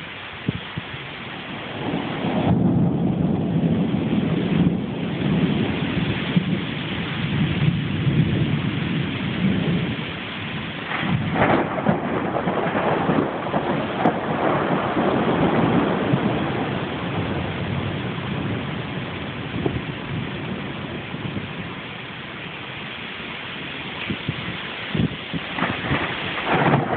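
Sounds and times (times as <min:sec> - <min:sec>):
rain falling: 0:00.0 - 0:26.9
thunder rumbling: 0:00.0 - 0:26.9.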